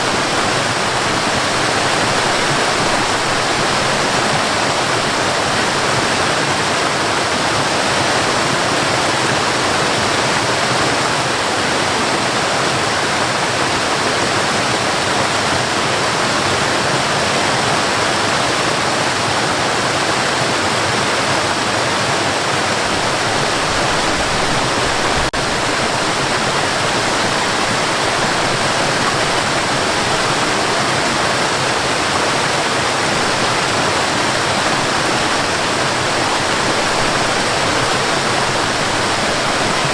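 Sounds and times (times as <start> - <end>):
water cascading and rushing: 0.0 - 39.9.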